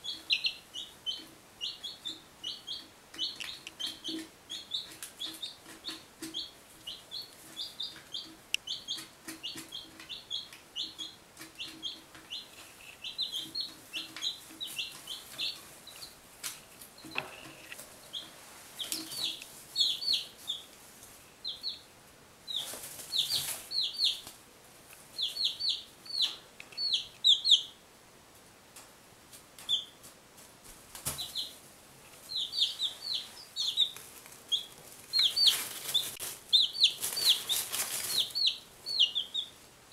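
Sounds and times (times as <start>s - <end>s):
chicks peeping: 0.0s - 27.8s, 28.8s - 30.2s, 30.8s - 39.9s.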